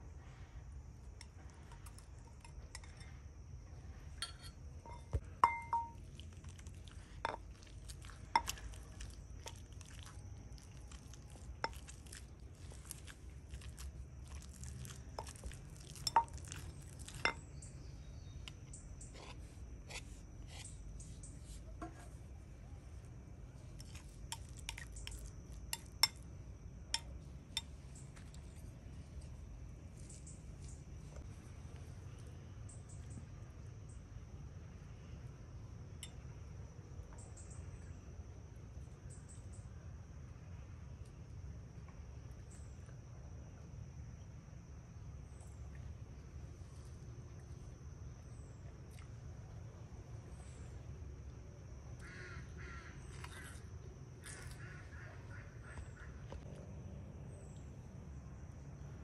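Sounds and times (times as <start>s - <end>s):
faint high-pitched whine: 0.0s - 59.0s.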